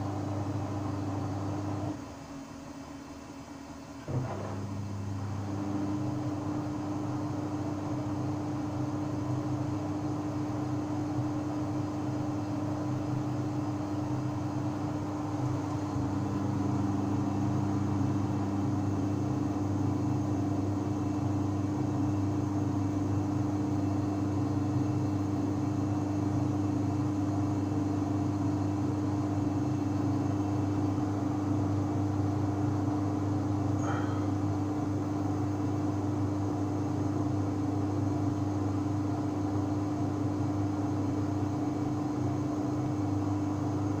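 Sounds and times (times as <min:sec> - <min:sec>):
washing machine spinning: 0:00.0 - 0:02.5, 0:03.8 - 0:44.0.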